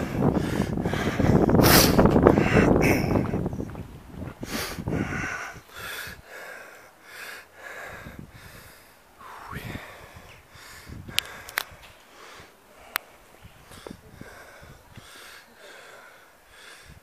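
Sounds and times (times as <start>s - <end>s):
person breathing hard: 0.0s - 3.5s, 4.4s - 17.0s
wind rumble on microphone: 0.0s - 6.3s, 7.8s - 15.2s, 16.8s - 17.0s.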